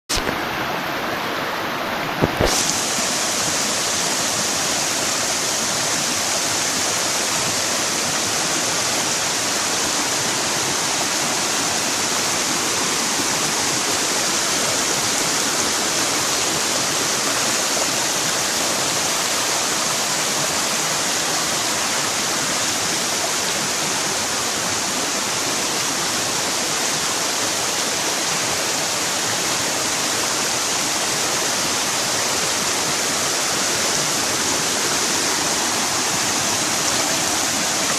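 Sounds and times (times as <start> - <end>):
stream rushing over rocks: 0.1 - 37.9.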